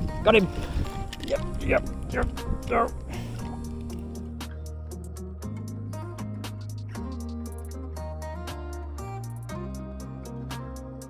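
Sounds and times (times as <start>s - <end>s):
sustained bass notes: 0.0s - 11.0s.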